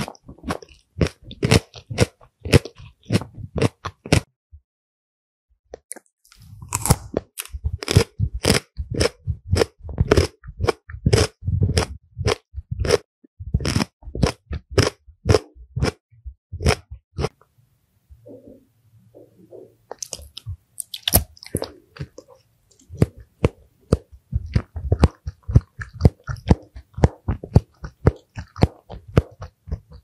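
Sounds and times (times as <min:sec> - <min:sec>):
chewing crunchy food: 0:00.0 - 0:04.3, 0:05.9 - 0:16.0, 0:19.9 - 0:30.0.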